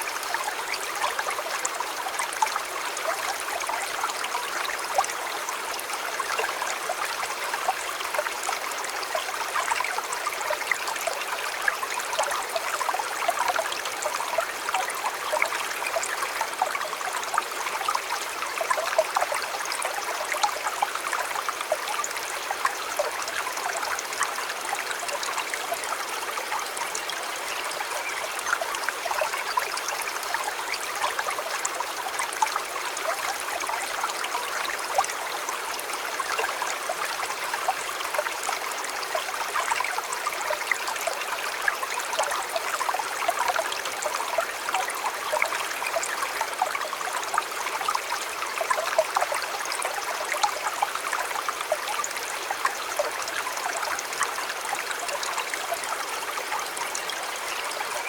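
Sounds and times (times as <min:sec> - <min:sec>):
river water babbling: 0:00.0 - 0:58.0.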